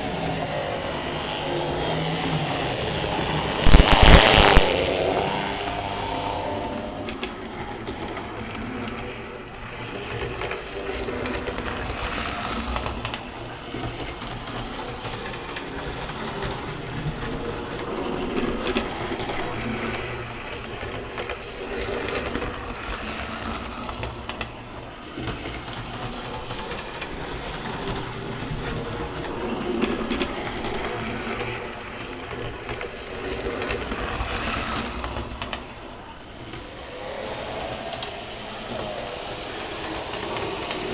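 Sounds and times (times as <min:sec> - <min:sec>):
model train clattering: 0:00.0 - 0:40.9.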